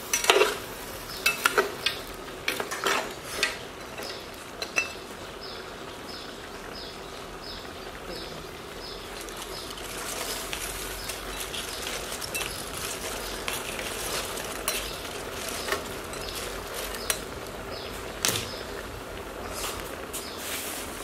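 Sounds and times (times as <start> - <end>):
meat and vegetables sizzling: 0.0 - 21.0.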